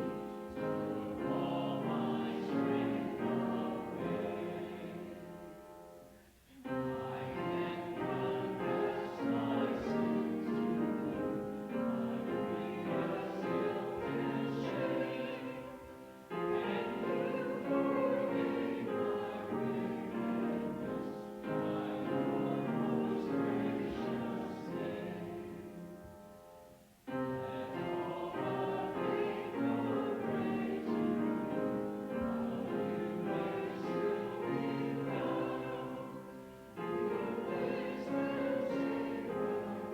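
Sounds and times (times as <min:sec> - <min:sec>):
congregation singing: 0:00.0 - 0:39.9.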